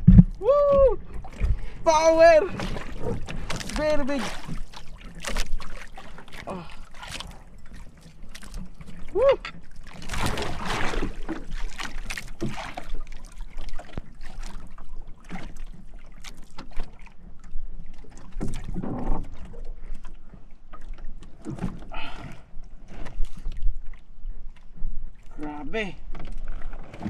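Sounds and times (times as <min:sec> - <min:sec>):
knocks and clatter on boat: 0:00.0 - 0:24.1, 0:25.6 - 0:27.0.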